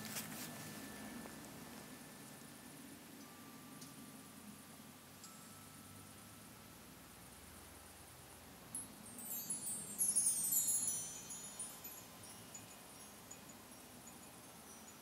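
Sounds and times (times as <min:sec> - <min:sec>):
high tinkling chimes: 0:00.7 - 0:07.6, 0:08.6 - 0:15.0.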